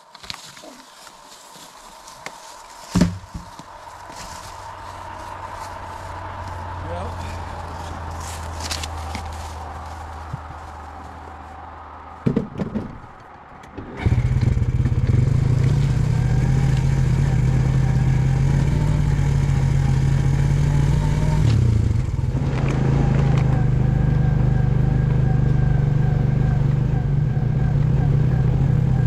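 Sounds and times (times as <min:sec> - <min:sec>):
atv engine running: 0:03.0 - 0:11.9, 0:13.8 - 0:29.0.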